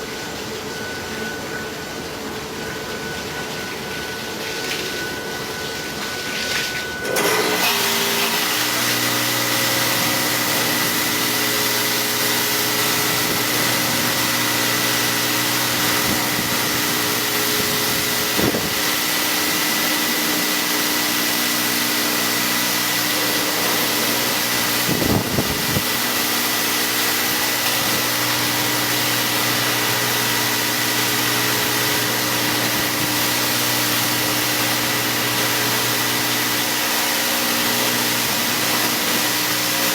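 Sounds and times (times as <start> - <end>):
car wash motor hum: 0.0 - 39.9.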